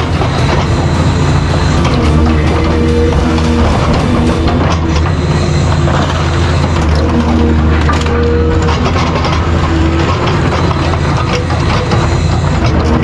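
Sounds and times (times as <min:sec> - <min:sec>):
low machine drone: 0:00.0 - 0:13.0
metal crunching and cracking: 0:00.0 - 0:13.0.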